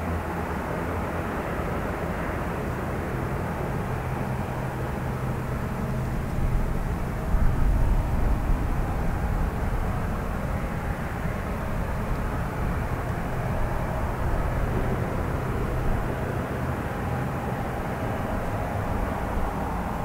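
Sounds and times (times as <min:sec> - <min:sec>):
turboprop engines idling: 0:00.0 - 0:20.0.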